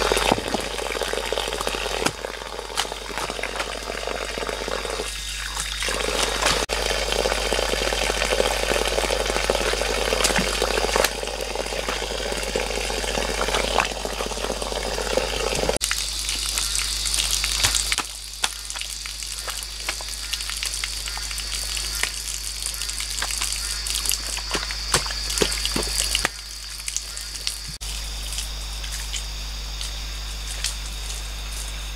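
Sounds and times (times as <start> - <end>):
water stream splashing on ground: 0.0 - 31.8.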